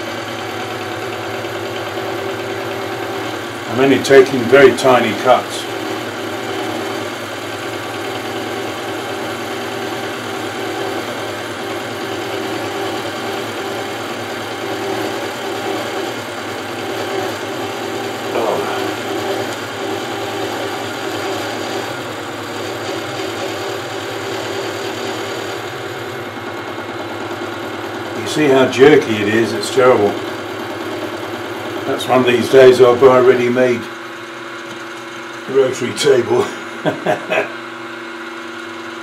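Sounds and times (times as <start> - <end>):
milling machine cutting aluminium: 0.0 - 36.4.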